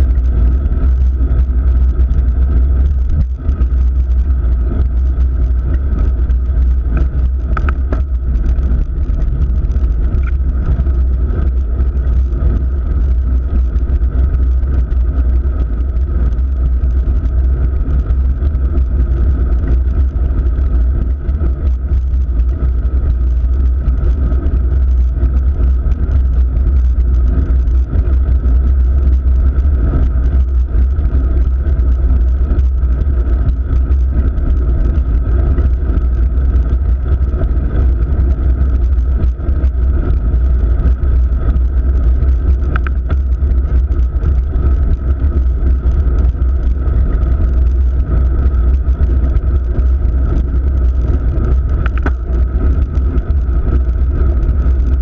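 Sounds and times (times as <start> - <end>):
road and wind rumble: 0.0 - 55.0.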